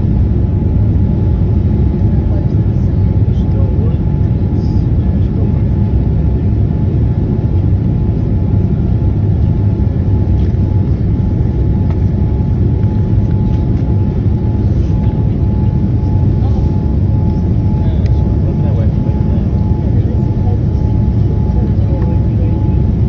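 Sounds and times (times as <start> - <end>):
airliner engines low rumble: 0.0 - 23.0.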